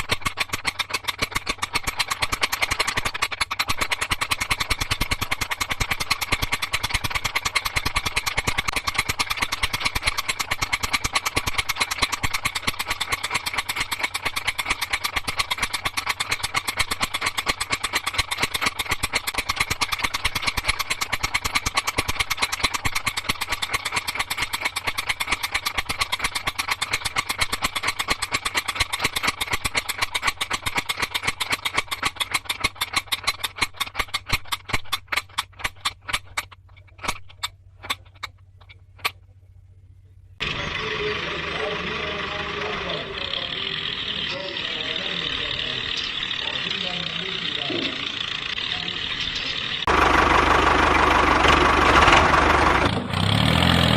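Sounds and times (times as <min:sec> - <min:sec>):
motor-driven mechanism clicking: 0:00.0 - 0:39.2, 0:40.4 - 0:53.4.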